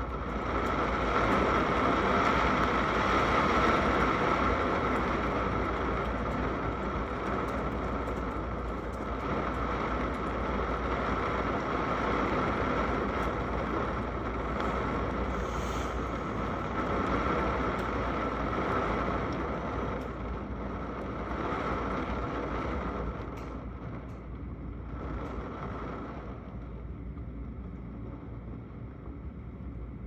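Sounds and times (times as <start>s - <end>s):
rain rushing: 0.0s - 26.7s.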